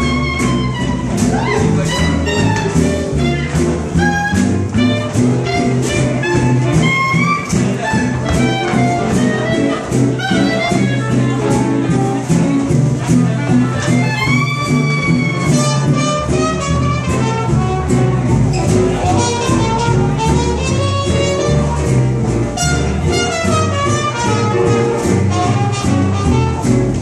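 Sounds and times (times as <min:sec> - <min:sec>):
swing jazz dance music: 0:00.0 - 0:27.0.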